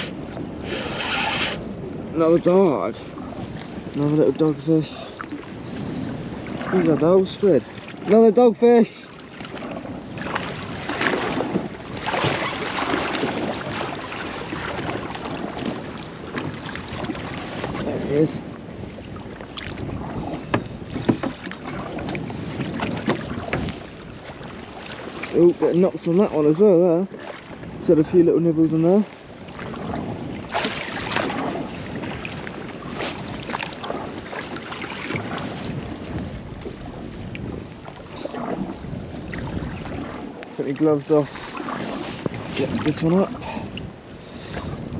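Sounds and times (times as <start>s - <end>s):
water splashing against a boat: 0.0s - 44.9s
wind buffeting microphone: 0.0s - 44.9s.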